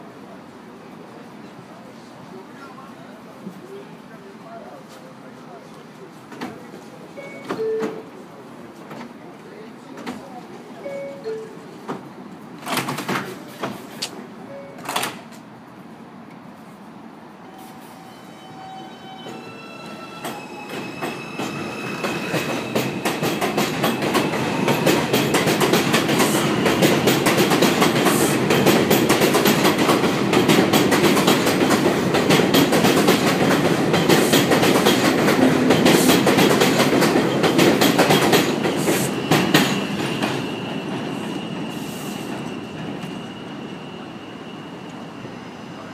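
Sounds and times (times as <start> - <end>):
subway train rumbling: 0.0 - 45.9.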